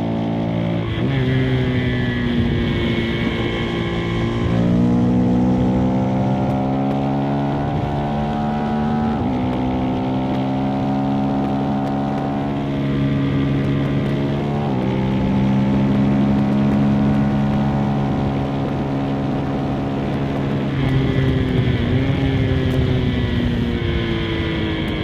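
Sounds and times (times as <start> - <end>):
single-cylinder motorcycle engine: 0.0 - 25.0.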